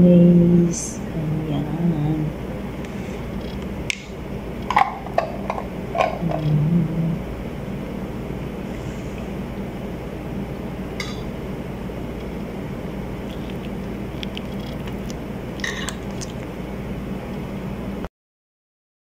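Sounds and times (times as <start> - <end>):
low background hum: 0.0 - 18.1.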